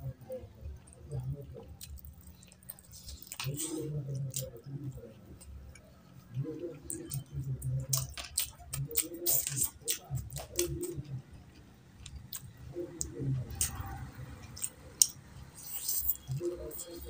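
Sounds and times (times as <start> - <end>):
wet chewing and lip smacking: 0.8 - 17.0.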